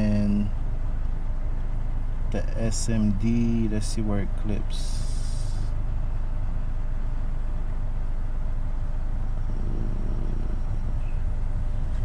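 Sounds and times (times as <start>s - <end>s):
deep bass test tone: 0.0s - 12.0s.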